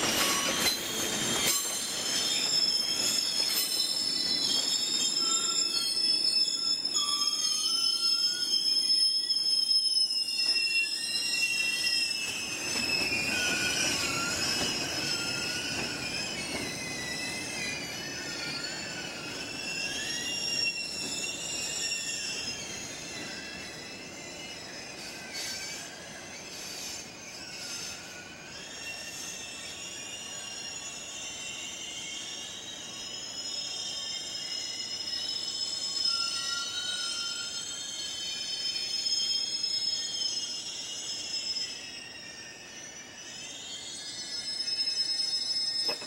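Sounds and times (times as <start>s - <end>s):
train wheels squealing: 0.0s - 46.0s.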